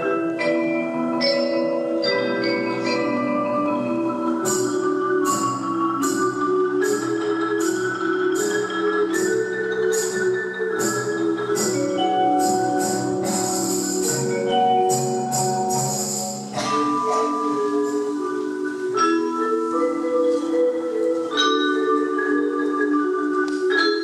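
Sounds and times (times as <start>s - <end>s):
mallet percussion notes: 0.0s - 24.0s.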